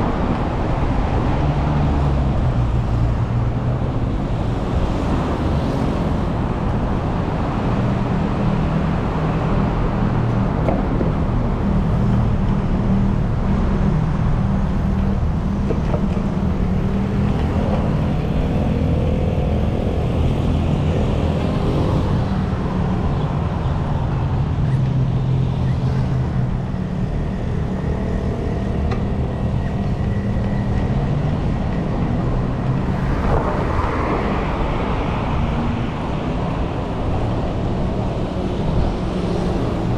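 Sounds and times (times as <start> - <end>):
road noise: 0.0 - 39.9
vehicle engines humming: 0.0 - 39.9.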